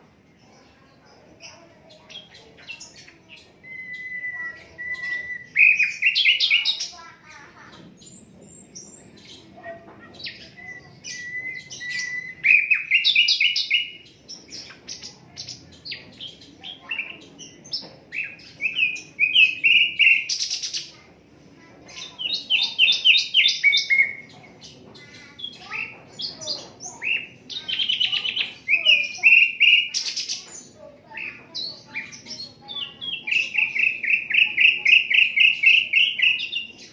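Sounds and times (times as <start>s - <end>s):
bird singing: 0.2s - 36.9s.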